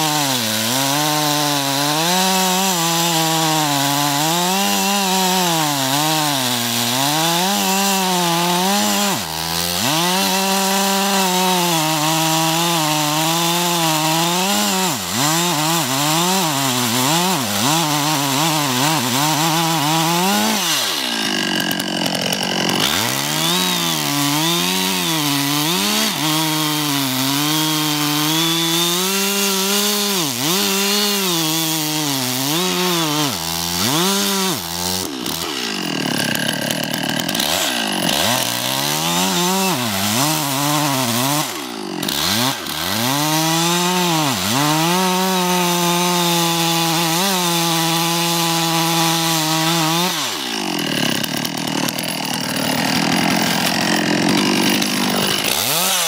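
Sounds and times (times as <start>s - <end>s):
chainsaw cutting tree trunk: 0.0s - 56.0s.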